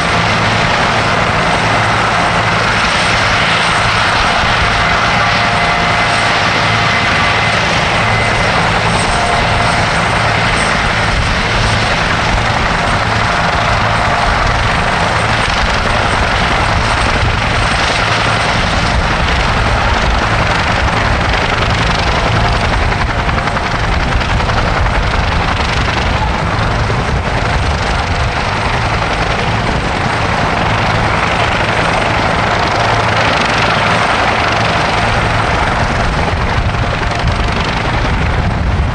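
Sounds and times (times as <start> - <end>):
helicopters running: 0.0 - 38.9.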